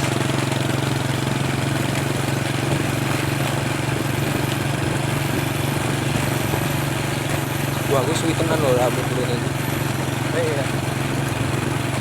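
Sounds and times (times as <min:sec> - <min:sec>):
rushing road noise: 0:00.0 - 0:12.0
vehicle engine running: 0:00.0 - 0:12.0.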